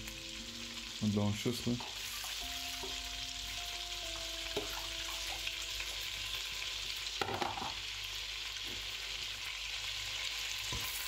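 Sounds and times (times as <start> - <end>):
butter sizzling in a pot: 0.0 - 11.0.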